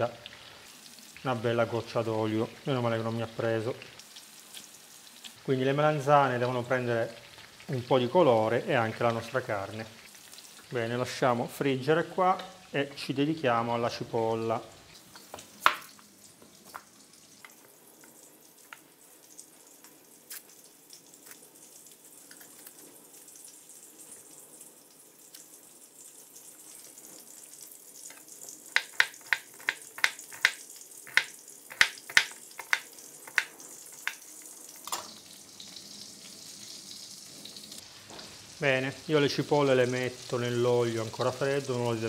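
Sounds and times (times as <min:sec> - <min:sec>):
oil sizzling in frying pans: 0:00.0 - 0:42.0.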